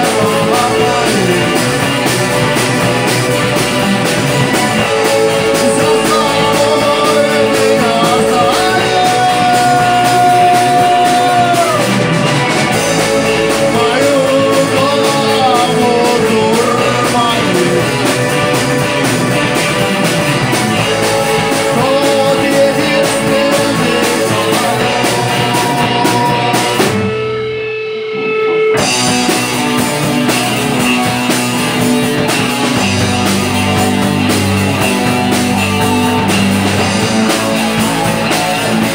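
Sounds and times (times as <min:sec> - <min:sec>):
person singing: 0:00.0 - 0:27.1, 0:32.4 - 0:38.9
drum kit: 0:00.0 - 0:38.9
electric guitar: 0:00.0 - 0:38.9.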